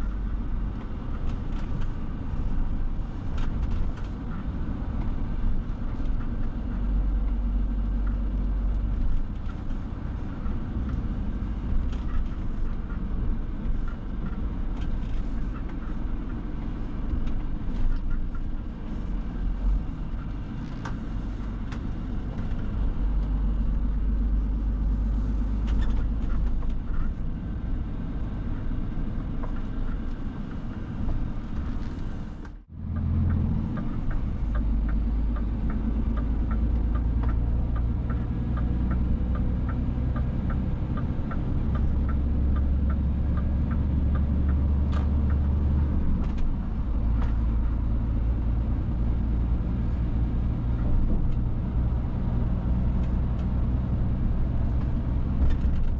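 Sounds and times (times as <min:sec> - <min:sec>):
road and tyre noise: 0:00.0 - 0:55.9
truck engine drone: 0:00.0 - 0:55.9.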